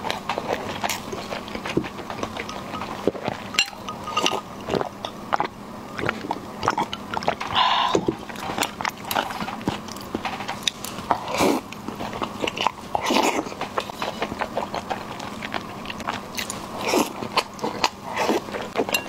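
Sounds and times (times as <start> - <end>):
chewing with wet clicks: 0.0 - 19.0.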